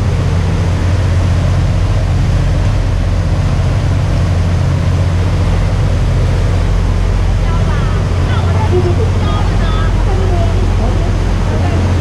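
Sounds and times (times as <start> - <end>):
boat engine droning: 0.0 - 12.0
rushing noise: 0.0 - 12.0.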